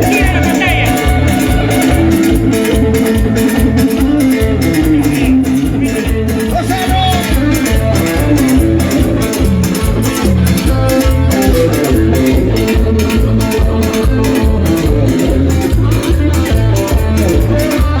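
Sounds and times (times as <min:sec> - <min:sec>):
bass: 0:00.0 - 0:18.0
guitar melody: 0:00.0 - 0:18.0
steady drum beat: 0:00.0 - 0:18.0.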